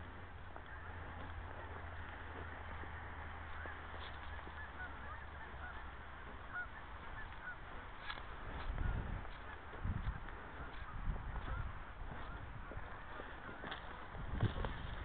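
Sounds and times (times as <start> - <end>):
distant geese honking: 0.0 - 15.0
wind rumbling on microphone: 0.0 - 15.0.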